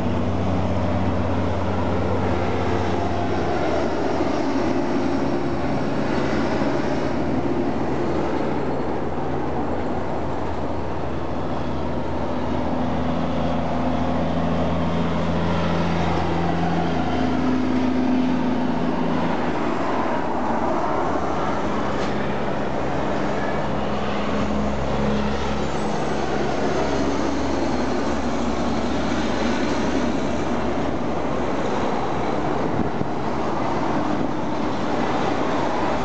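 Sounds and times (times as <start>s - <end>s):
diesel truck engines droning: 0.0s - 36.0s.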